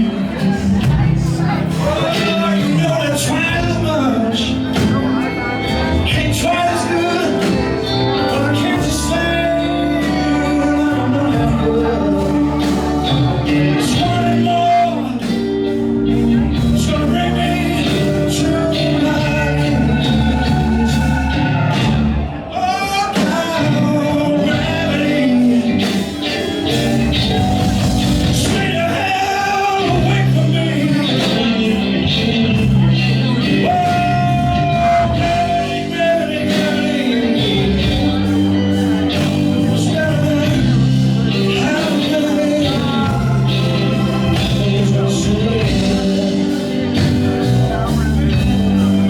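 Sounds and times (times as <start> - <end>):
blues rock band playing: 0.0 - 49.0
person singing: 0.0 - 49.0.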